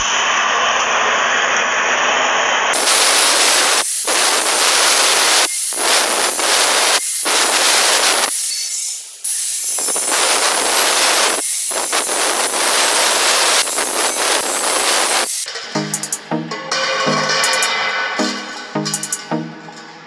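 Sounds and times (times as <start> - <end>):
angle grinder cutting steel pipe: 2.7 - 19.4.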